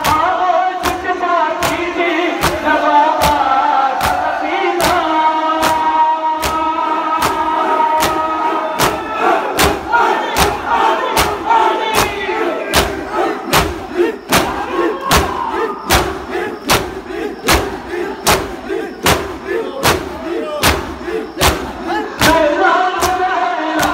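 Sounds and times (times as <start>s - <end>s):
chest beating in unison: 0.0s - 23.9s
crowd chanting and shouting: 0.0s - 23.9s.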